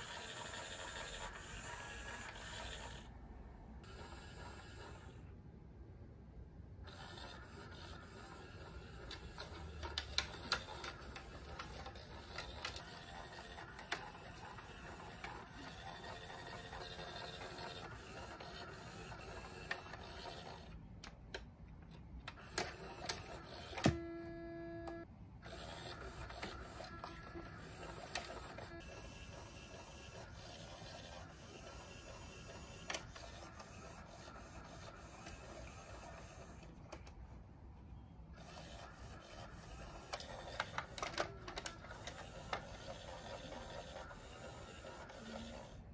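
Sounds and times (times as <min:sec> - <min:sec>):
cat toy motor whirring: 0:00.0 - 0:03.2, 0:03.8 - 0:05.3, 0:06.8 - 0:20.8, 0:22.3 - 0:36.9, 0:38.3 - 0:45.9.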